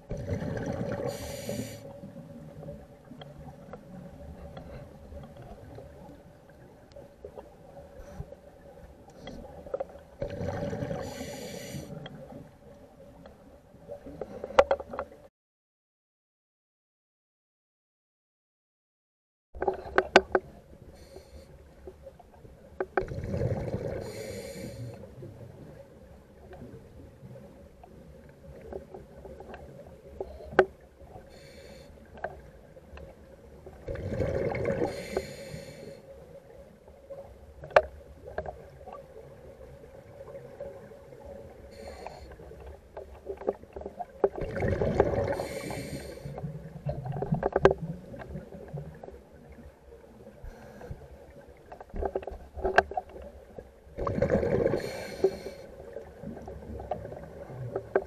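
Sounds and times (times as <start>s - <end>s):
water lapping and sloshing: 0.0s - 15.3s, 19.6s - 58.0s.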